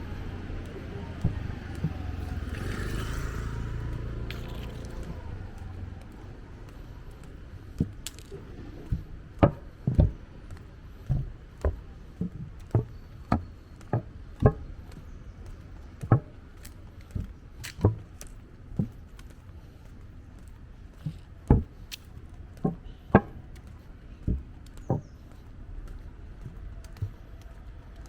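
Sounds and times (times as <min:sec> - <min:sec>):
footsteps walking: 0:00.0 - 0:28.0.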